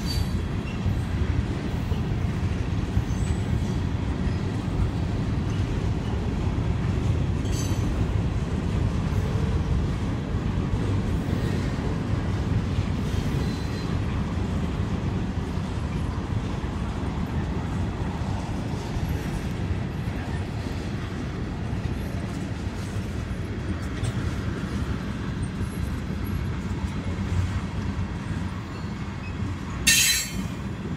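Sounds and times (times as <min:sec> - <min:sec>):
freight train wheels rumbling on rail: 0:00.0 - 0:30.9.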